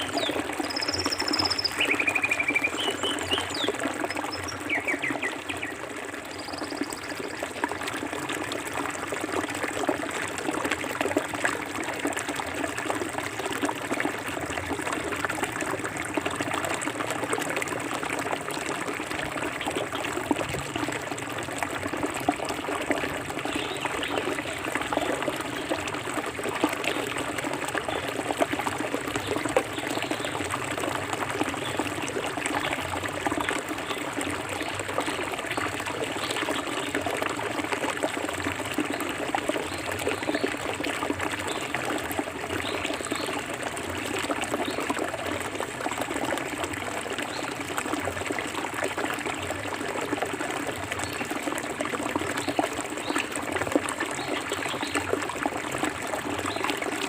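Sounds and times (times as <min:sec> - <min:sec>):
forest stream flowing: 0:00.0 - 0:57.0.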